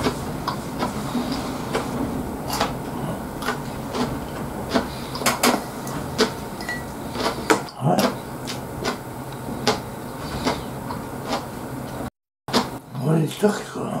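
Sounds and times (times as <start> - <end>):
low hum: 0.0 - 12.1
wet chewing sounds: 0.0 - 12.8.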